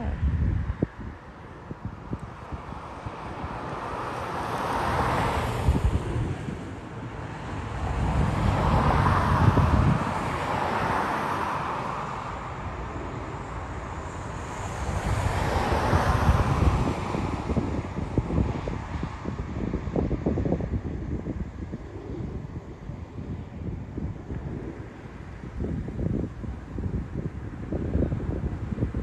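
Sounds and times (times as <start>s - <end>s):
distant jet engines roaring: 0.0s - 29.0s
wind buffeting microphone: 0.0s - 29.0s.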